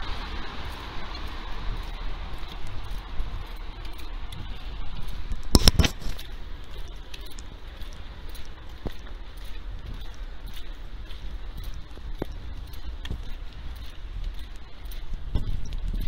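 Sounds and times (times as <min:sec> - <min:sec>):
footsteps on wet pavement: 0:00.0 - 0:16.0
street low rumble: 0:00.0 - 0:16.0.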